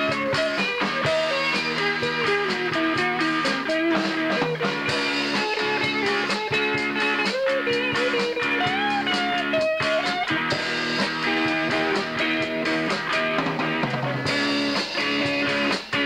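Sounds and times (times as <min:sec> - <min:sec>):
live rock band playing: 0:00.0 - 0:16.0
sliding guitar line: 0:00.0 - 0:16.0.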